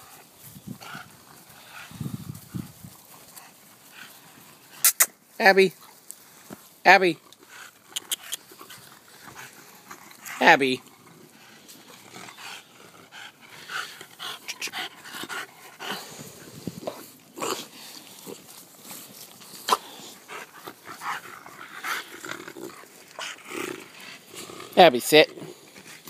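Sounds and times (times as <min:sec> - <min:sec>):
dogs panting: 0:00.0 - 0:04.8, 0:07.2 - 0:26.0.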